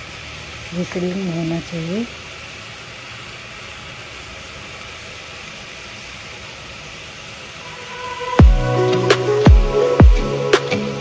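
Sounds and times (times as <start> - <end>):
gas burner flame hissing: 0.0 - 11.0.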